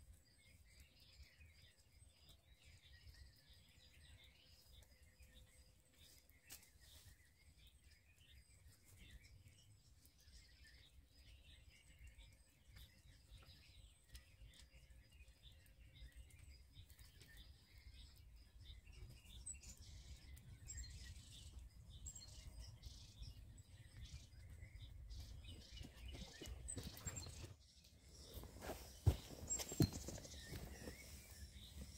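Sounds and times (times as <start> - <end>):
faint bird chirps: 0.0 - 31.9.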